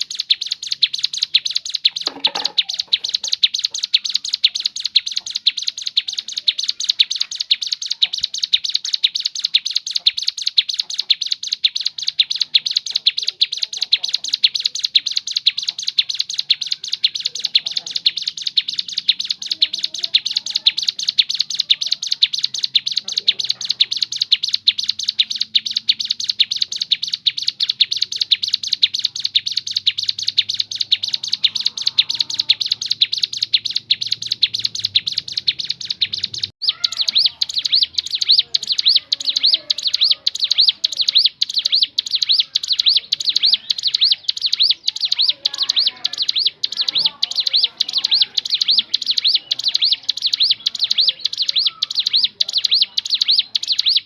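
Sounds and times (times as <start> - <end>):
bird singing high rapid chirps: 0.0 - 54.0.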